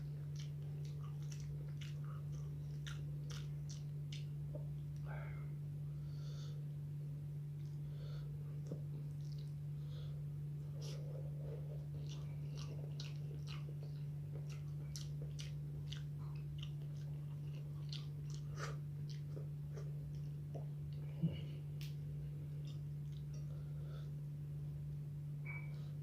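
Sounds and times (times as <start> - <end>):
person chewing food: 0.0 - 5.3, 7.5 - 24.4
low hum: 0.0 - 26.0.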